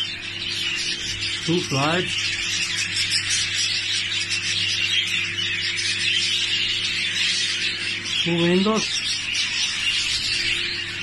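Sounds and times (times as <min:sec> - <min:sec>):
budgerigars chattering: 0:00.0 - 0:11.0
steady low hum: 0:00.0 - 0:11.0.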